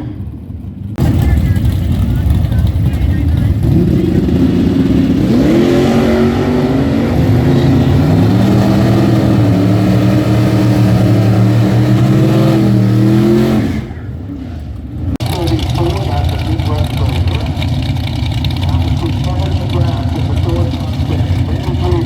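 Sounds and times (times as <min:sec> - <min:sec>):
racing car engine accelerating: 0:01.0 - 0:22.0.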